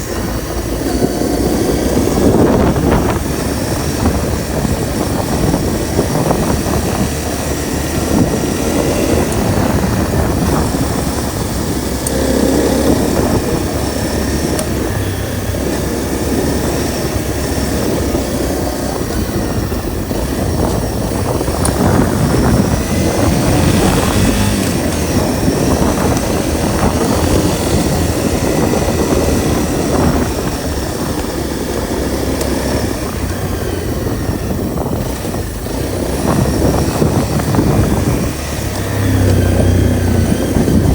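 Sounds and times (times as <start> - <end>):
motorcycle engine running: 0.0 - 40.9
road rumble: 0.0 - 40.9
wind: 0.0 - 40.9.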